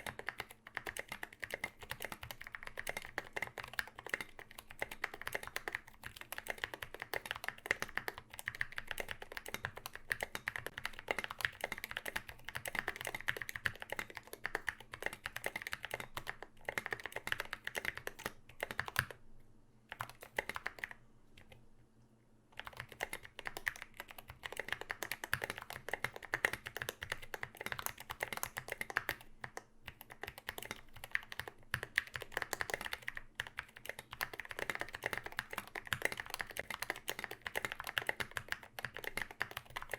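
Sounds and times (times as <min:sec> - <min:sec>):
typing on mechanical keyboard: 0:00.0 - 0:19.2, 0:19.9 - 0:21.6, 0:22.6 - 0:39.9.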